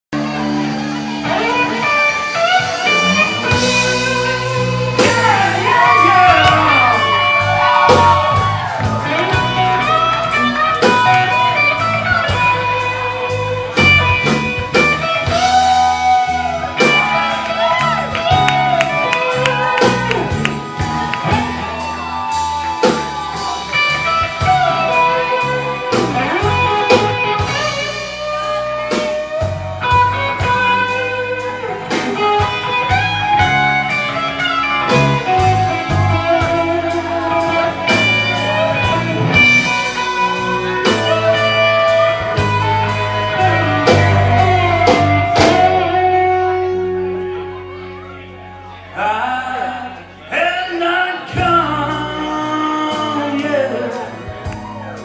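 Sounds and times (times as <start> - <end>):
bass guitar: 0.0 - 55.0
drums: 0.1 - 55.0
electric guitar lead: 0.2 - 55.0.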